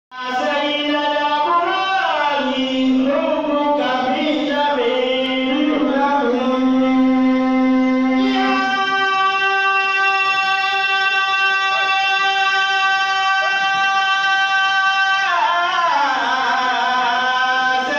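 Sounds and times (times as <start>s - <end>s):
man singing through loudspeakers: 0.1s - 17.9s.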